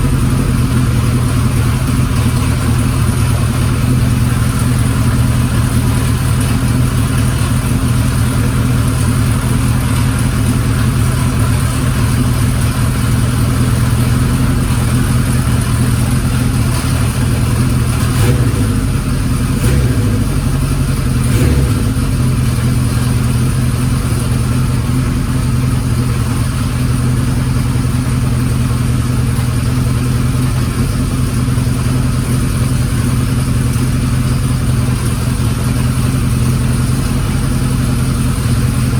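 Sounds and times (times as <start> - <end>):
abnormal mechanical engine noise: 0.0 - 38.9
motorcycle engine idling: 0.0 - 38.9.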